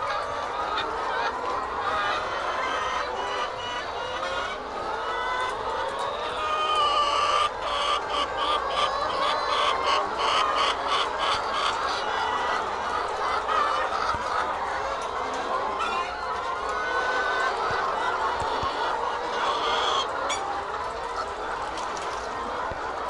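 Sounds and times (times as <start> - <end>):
hens calling: 0.0 - 23.0.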